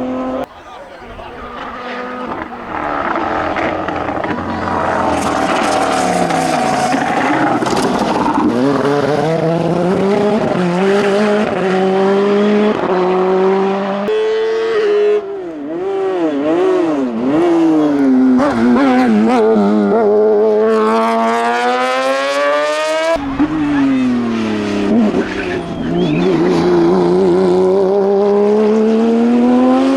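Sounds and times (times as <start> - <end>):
race car engine revving: 0.0 - 29.9.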